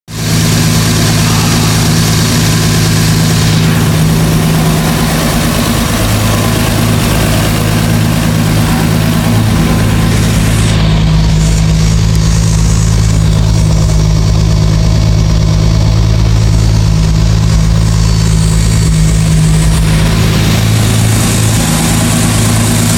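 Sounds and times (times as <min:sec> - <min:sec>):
car engine idling: 0:00.1 - 0:22.9.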